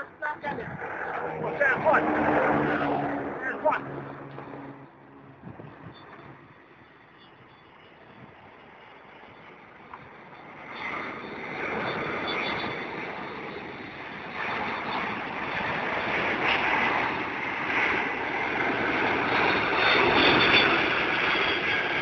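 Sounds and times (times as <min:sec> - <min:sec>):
jet airliner engines rumbling and whining: 0:00.0 - 0:22.0.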